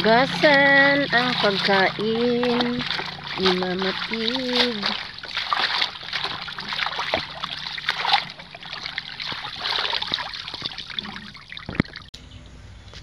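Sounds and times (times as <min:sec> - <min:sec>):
water splashing in a basin: 0:00.0 - 0:12.1
water trickling: 0:00.0 - 0:12.1.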